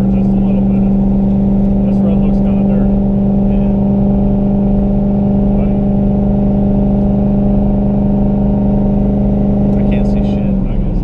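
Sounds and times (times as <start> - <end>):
car engine droning in cabin: 0.0 - 11.0.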